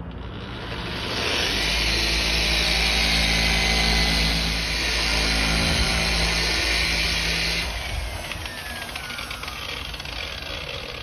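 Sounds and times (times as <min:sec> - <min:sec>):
polisher motor whine: 0:00.2 - 0:11.0.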